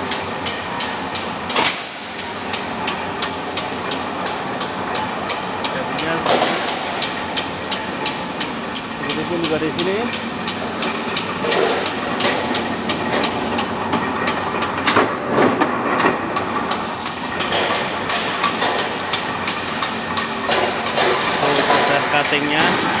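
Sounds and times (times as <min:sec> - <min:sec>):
workshop cutting machinery running: 0:00.0 - 0:23.0.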